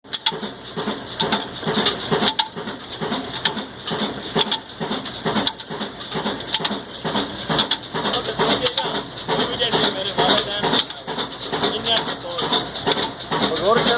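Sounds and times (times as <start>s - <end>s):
diesel engine thudding slowly: 0.0s - 13.9s.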